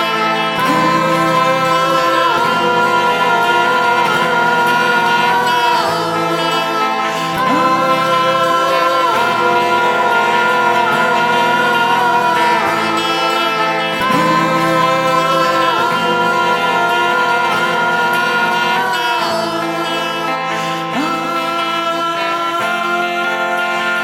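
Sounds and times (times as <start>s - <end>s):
guitar song with held chords: 0.0s - 24.0s.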